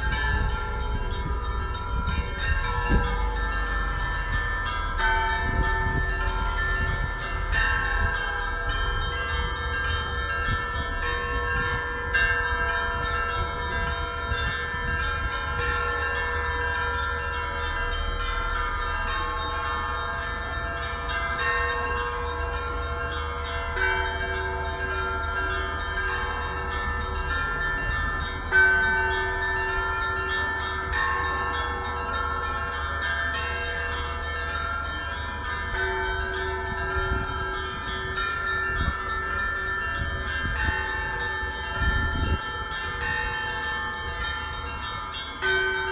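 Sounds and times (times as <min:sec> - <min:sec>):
church bells ringing: 0:00.0 - 0:45.9.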